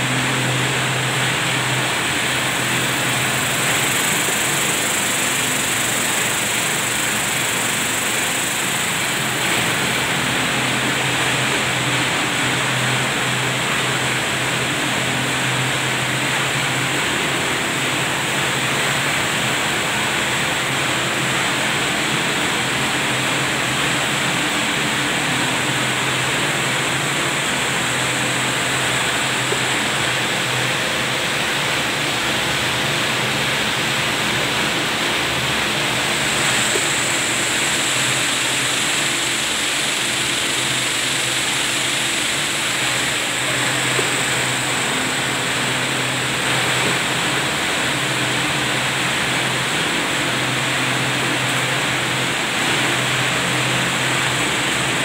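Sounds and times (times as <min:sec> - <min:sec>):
finishing machine humming and hissing: 0:00.0 - 0:55.0.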